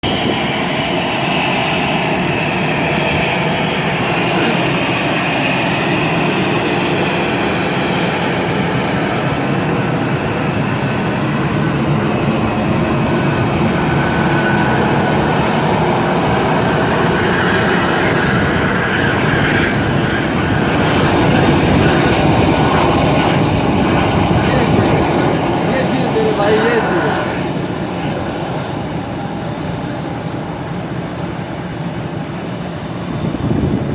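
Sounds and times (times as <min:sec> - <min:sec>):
aeroplane engine and air rush: 0:00.0 - 0:33.9.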